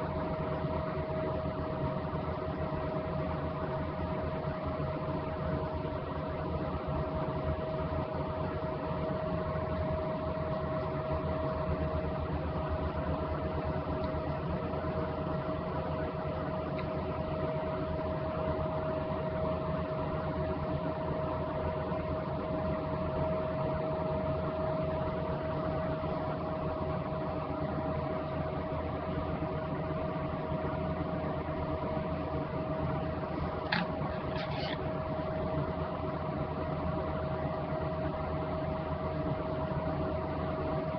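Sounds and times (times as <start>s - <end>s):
steady hum with constant tone: 0.0s - 40.9s.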